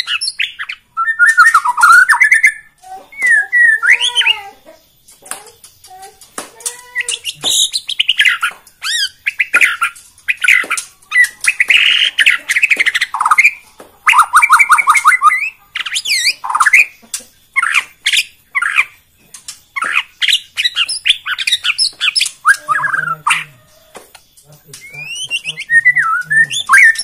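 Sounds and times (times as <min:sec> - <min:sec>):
bird singing varied song: 0:00.0 - 0:27.0.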